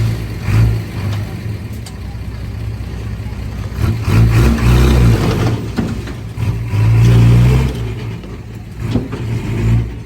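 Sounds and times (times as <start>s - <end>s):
heavy diesel engine under load: 0.0s - 10.0s.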